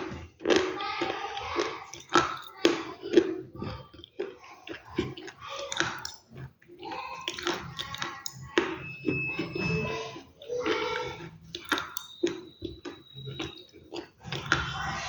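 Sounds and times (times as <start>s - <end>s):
crunchy chewing: 0.0s - 15.0s
wet mouth sounds: 0.0s - 15.0s.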